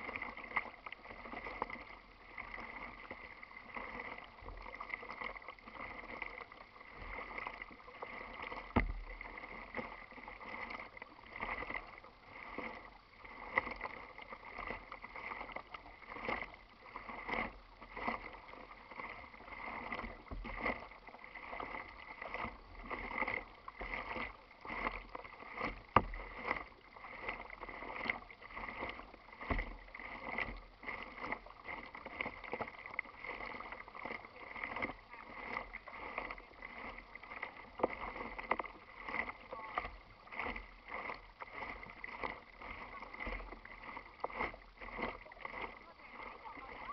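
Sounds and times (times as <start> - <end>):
paddle splashing water: 0.0 - 46.9
water lapping at hull: 0.0 - 46.9.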